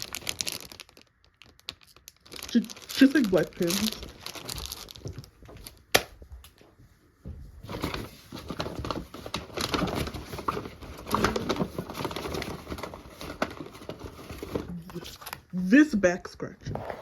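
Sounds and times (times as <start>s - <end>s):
plastic wrapping crinkling: 0.0s - 6.1s, 7.6s - 15.5s.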